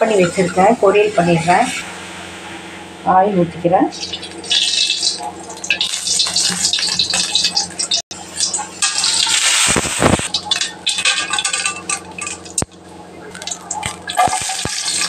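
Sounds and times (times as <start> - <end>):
oil crackling and sizzling: 0.0 - 2.1, 3.9 - 15.0
steady low hum: 0.0 - 15.0.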